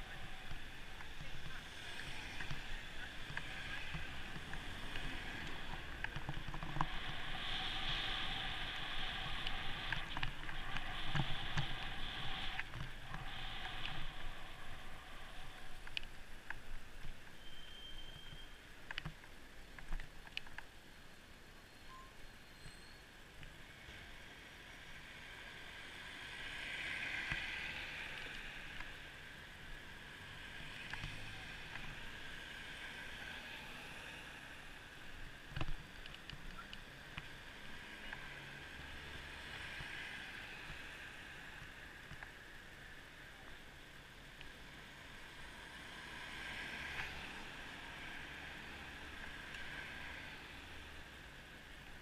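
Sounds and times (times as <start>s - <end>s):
muffled traffic passing: 0.0s - 17.4s, 23.5s - 52.0s.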